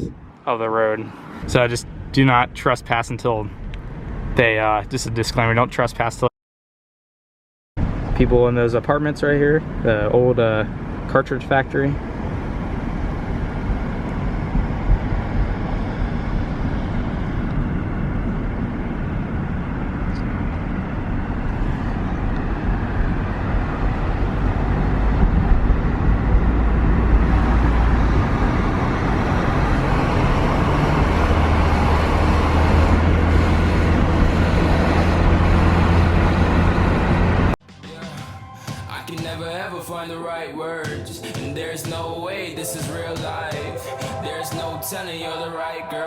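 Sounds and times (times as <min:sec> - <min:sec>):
car road and engine noise: 0:00.0 - 0:06.3, 0:07.8 - 0:37.7, 0:38.9 - 0:46.0.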